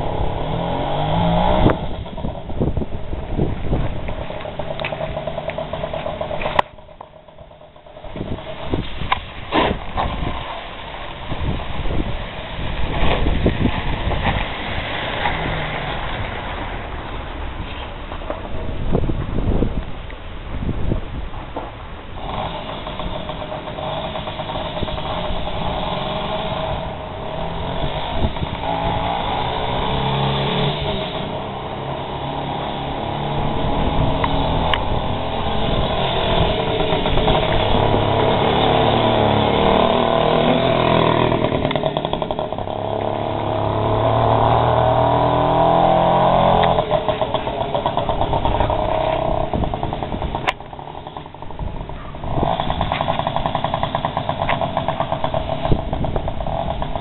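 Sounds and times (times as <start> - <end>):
moped two-stroke engine passing: 0.0 - 18.3, 22.1 - 57.0.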